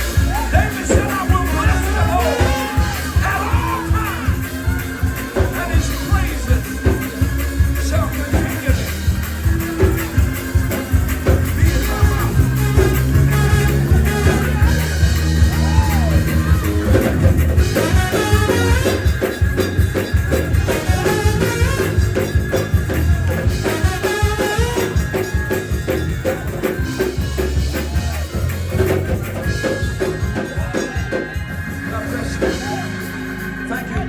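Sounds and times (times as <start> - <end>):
bass: 0.0 - 34.0
drum kit: 0.0 - 34.0.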